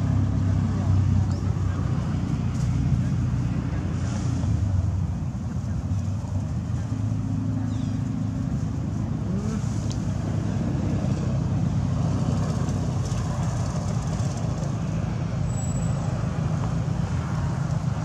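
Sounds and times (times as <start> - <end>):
engine low rumble: 0.0 - 18.0.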